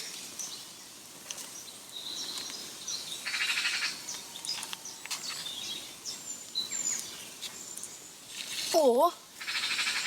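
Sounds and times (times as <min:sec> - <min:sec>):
faint outdoor background noise: 0:00.0 - 0:10.0
small birds chirping: 0:00.0 - 0:10.0.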